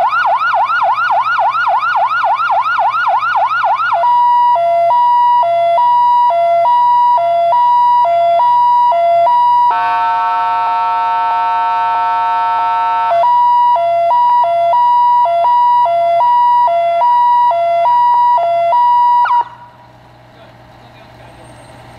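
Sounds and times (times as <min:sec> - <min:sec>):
two-tone electronic siren: 0:00.0 - 0:19.8
engine low hum: 0:00.0 - 0:21.9.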